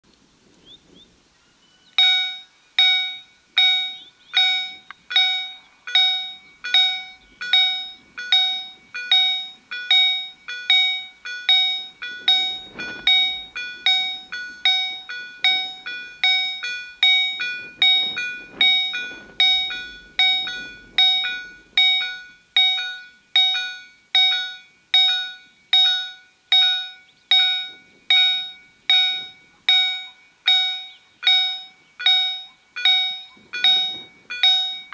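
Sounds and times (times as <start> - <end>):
level crossing warning bells ringing: 2.0 - 34.9.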